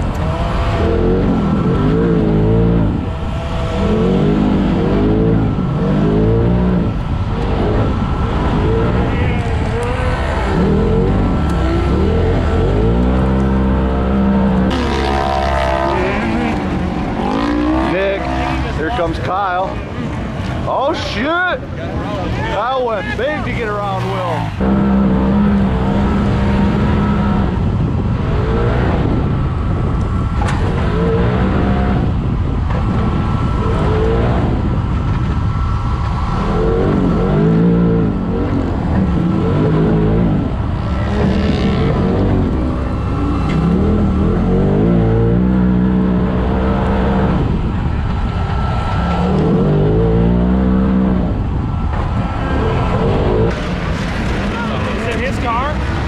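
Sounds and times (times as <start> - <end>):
utv engines revving: 0.0 - 56.0.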